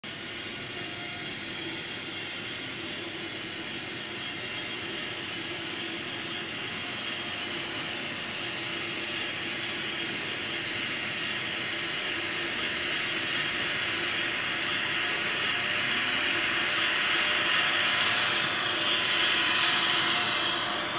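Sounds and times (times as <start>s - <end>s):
model train running sound: 0.0s - 20.9s.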